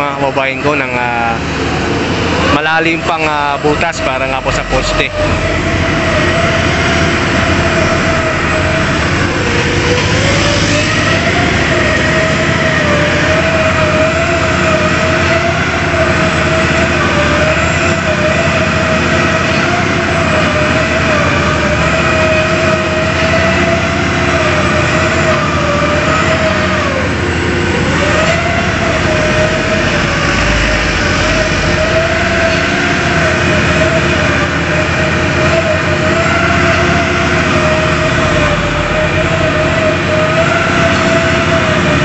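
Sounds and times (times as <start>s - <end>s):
diesel machinery rumble: 0.0s - 42.0s
wavering whining tone: 0.0s - 42.0s.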